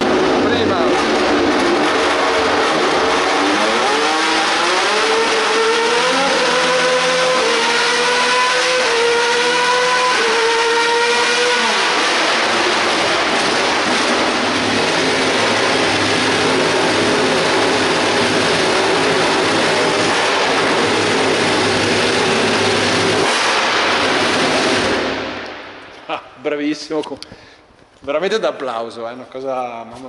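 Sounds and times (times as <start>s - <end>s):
race car engine revving: 0.0s - 25.8s.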